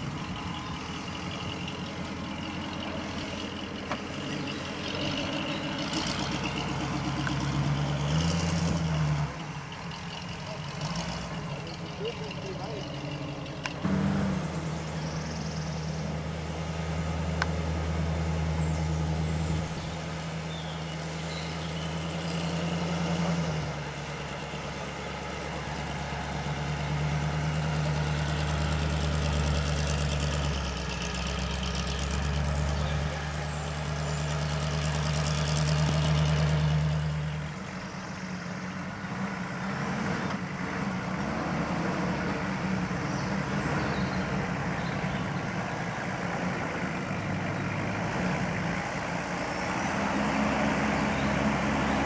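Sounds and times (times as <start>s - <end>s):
off-road engine running at low revs: 0.0s - 52.0s
rough uneven engine: 0.0s - 52.0s.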